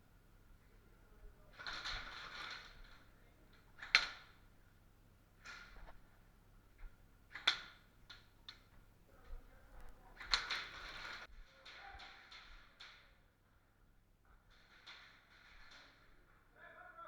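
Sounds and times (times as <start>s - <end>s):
sharp clicks and cracks: 0.0s - 16.6s
rustling noise: 1.1s - 4.7s, 5.4s - 7.0s, 7.8s - 16.4s.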